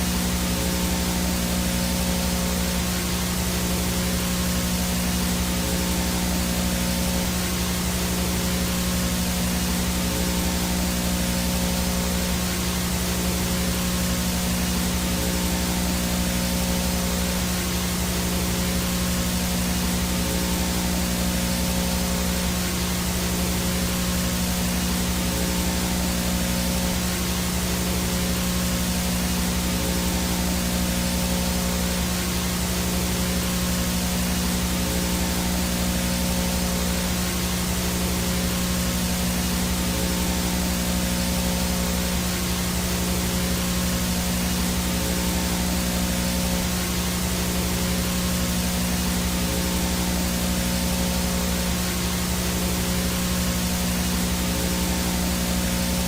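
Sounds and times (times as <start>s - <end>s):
low electrical hum: 0.0s - 56.0s
video static hiss: 0.0s - 56.0s.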